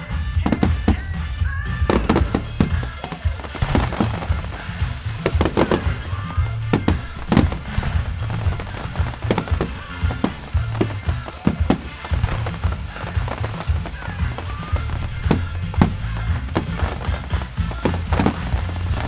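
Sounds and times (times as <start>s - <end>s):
fireworks bangs and crackles: 0.0s - 19.0s
loud music: 0.0s - 19.0s.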